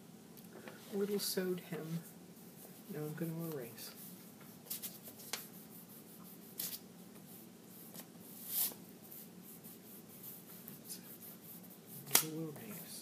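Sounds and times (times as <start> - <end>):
eraser rubbing on paper: 1.8 - 12.9.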